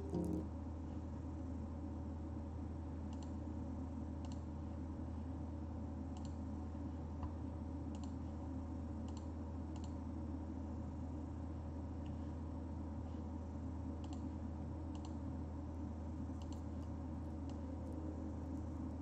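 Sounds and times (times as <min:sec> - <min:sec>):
low room tone hum: 0:00.0 - 0:19.0.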